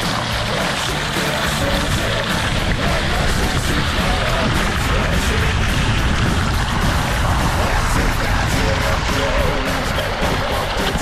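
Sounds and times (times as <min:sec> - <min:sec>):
loud background music: 0:00.0 - 0:11.0.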